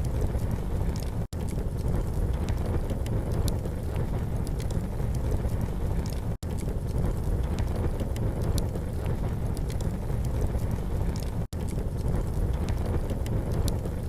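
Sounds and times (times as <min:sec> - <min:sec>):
campfire crackling: 0:00.0 - 0:14.0
fire pops and snaps: 0:00.0 - 0:14.0
steady low rumble: 0:00.0 - 0:14.0.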